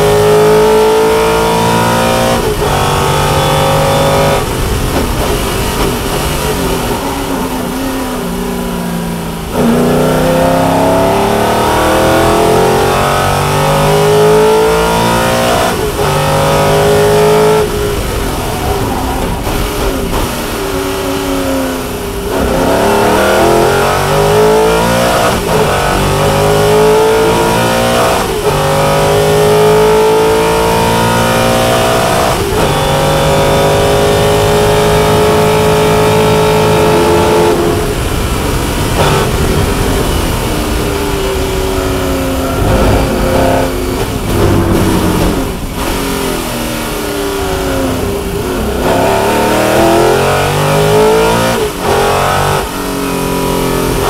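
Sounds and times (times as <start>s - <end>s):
racing engine accelerating: 0.0s - 54.0s.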